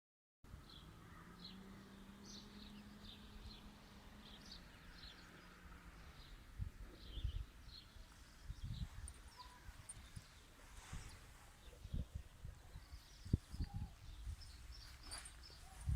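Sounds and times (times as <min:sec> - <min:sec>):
small birds chirping: 0:00.5 - 0:15.9.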